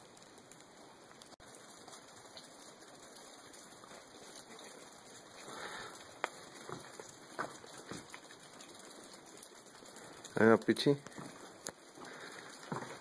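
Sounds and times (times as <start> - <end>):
light rain pattering: 0.0 - 13.0.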